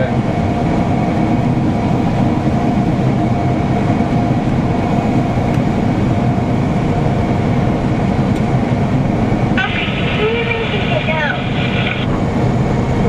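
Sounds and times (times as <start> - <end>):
combine harvester engine drone: 0.0 - 13.0
faint constant whine: 0.0 - 13.0.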